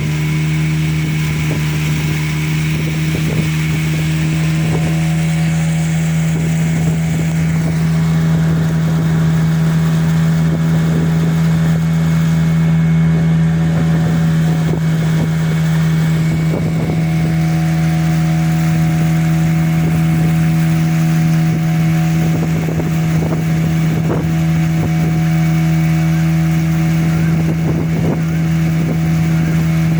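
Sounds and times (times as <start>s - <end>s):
motorboat engine droning: 0.0s - 29.9s
water rushing: 0.0s - 29.9s
wind: 0.0s - 29.9s.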